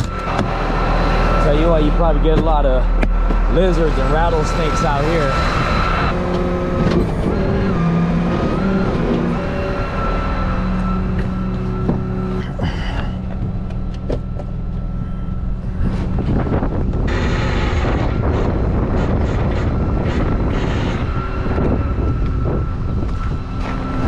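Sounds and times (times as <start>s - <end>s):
rushing noise: 0.0s - 24.0s
thin steady whine: 0.0s - 24.0s
truck engine running: 0.0s - 24.0s.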